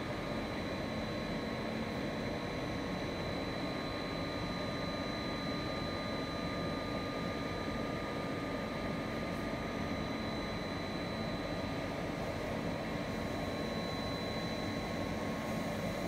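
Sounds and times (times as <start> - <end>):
high-pitched machine whine: 0.0 - 16.0.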